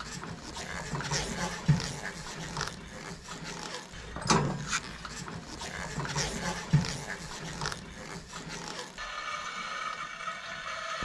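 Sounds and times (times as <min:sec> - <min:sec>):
breathy noises: 0:00.0 - 0:09.1.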